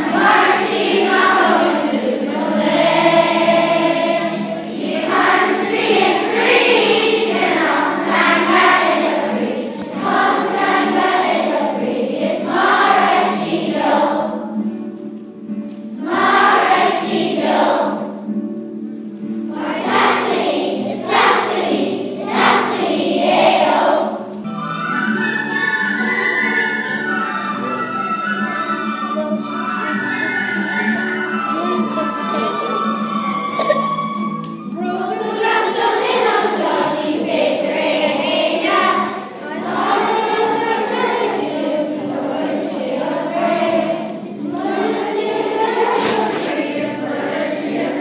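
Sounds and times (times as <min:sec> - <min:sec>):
children's choir singing: 0:00.0 - 0:48.0.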